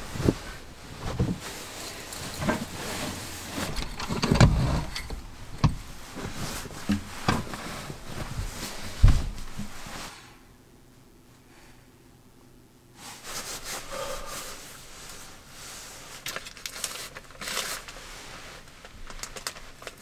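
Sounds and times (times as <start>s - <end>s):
clothing and bedding rustling: 0.0s - 10.4s, 12.9s - 20.0s.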